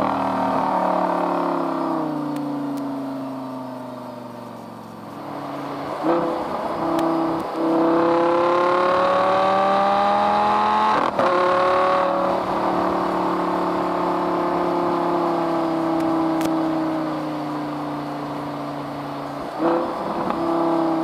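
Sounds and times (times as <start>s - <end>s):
sports car engine revving: 0.0s - 3.6s, 5.1s - 18.0s, 18.8s - 21.0s.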